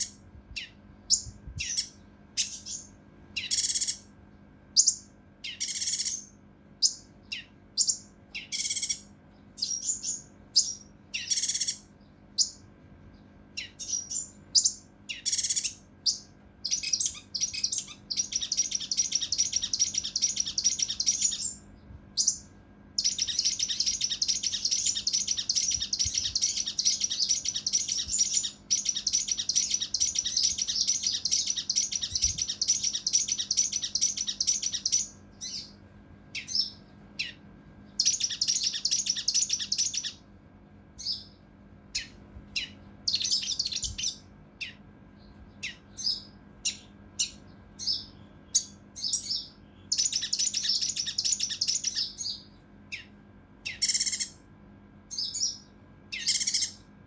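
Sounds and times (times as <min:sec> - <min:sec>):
bird singing harsh rapid notes: 0:00.0 - 0:04.1, 0:04.8 - 0:12.7, 0:13.5 - 0:40.2, 0:41.0 - 0:41.4, 0:42.0 - 0:54.4, 0:55.1 - 0:56.8.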